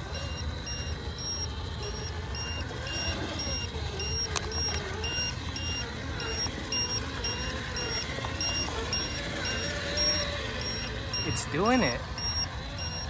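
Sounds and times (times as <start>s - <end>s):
toy car electric motor whine: 0.0s - 13.0s
two-tone battery alarm beeping: 0.0s - 13.0s.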